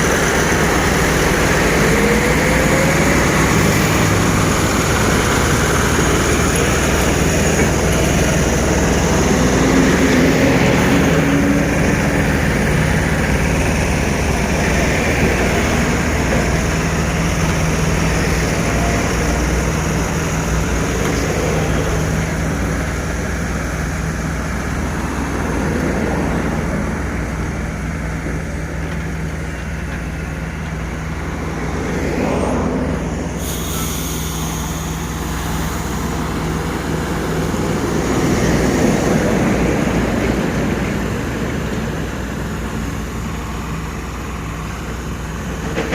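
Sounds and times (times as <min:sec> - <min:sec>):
road traffic: 0:00.0 - 0:45.9
vehicles passing: 0:00.0 - 0:45.9.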